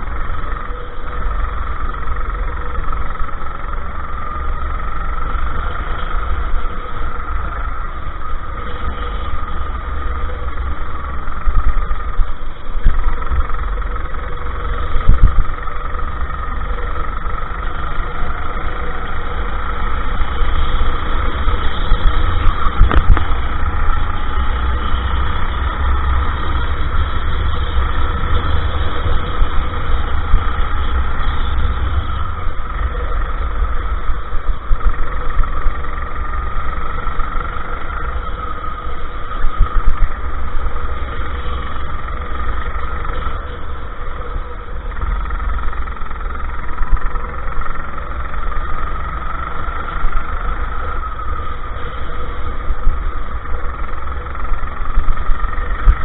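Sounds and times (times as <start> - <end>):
go-kart engine racing: 0.0 - 56.0
wind rumble on microphone: 0.0 - 56.0.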